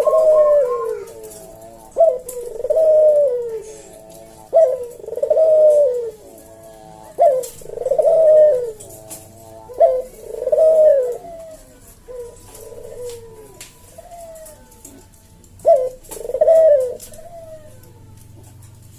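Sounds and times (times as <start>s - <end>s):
dove cooing: 0.0s - 18.9s.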